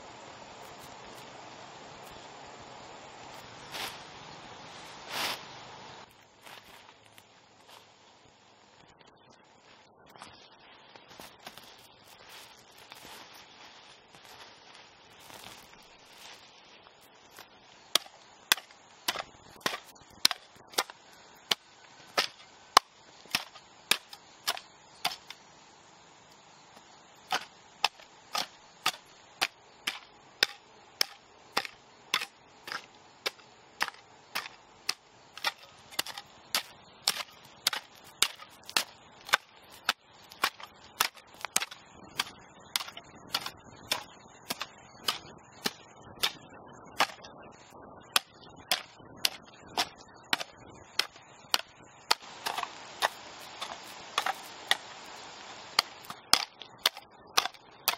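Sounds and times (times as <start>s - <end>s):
faint hiss: 0.0s - 46.8s, 47.4s - 56.8s.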